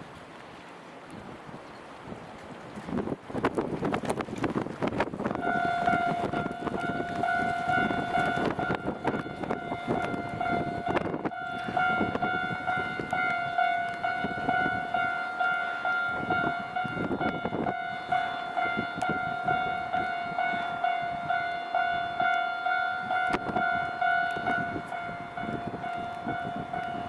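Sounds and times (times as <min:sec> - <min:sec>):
level-crossing warning bell: 0:05.2 - 0:27.0.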